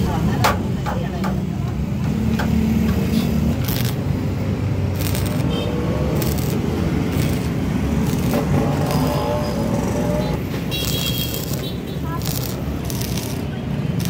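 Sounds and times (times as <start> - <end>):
welding arc crackling: 2.0 - 14.0.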